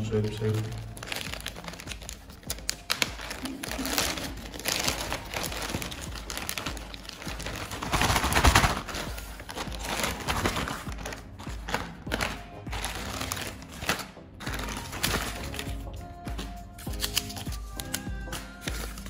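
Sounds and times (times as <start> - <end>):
plastic bag crinkling: 0.0 - 15.9.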